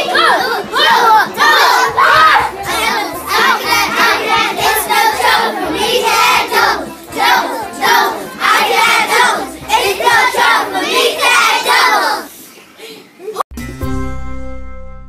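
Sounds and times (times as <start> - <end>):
backing song with low beat: 0.0 - 10.8, 13.5 - 15.0
children singing: 0.0 - 12.3.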